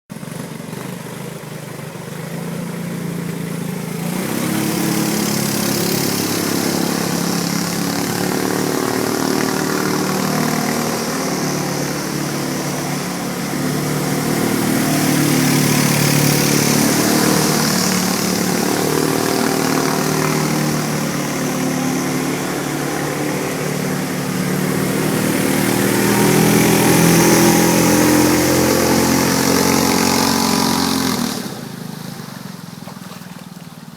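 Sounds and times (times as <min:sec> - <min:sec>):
boat engine running: 0:00.1 - 0:33.9.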